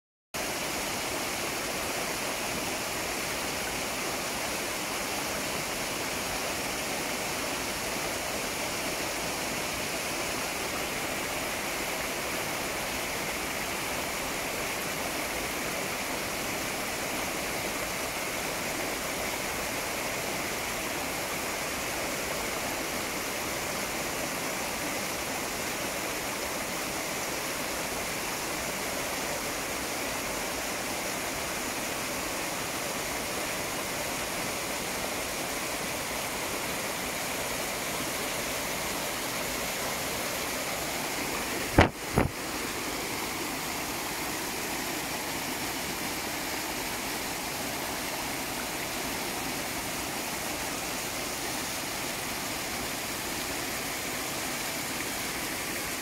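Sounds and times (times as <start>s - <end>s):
waterfall falling onto rocks: 0.4s - 56.0s.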